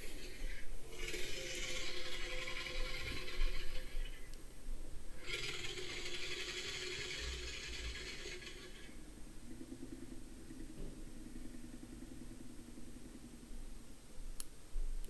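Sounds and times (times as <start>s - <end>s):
raspy rattling dinosaur call: 0.0s - 4.3s, 5.1s - 13.5s.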